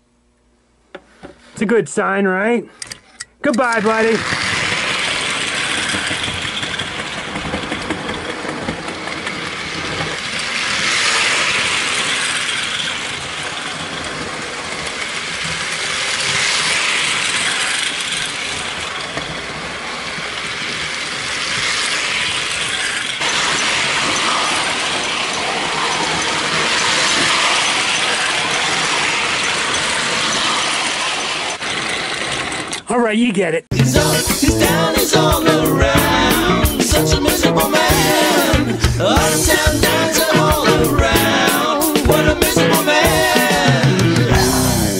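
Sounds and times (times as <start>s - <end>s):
toy train motor whirring: 2.8s - 32.9s, 34.1s - 43.8s
toy train wheels clattering: 2.8s - 32.9s, 33.9s - 44.9s.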